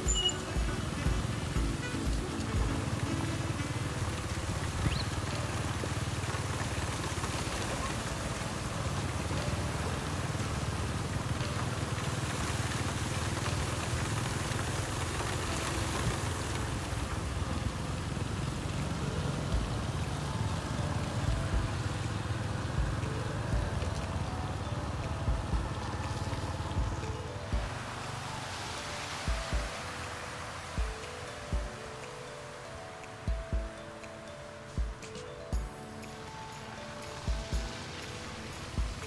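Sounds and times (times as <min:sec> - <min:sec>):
vehicle engine and road noise: 0:00.0 - 0:39.0
water hiss from wheels: 0:00.0 - 0:39.0.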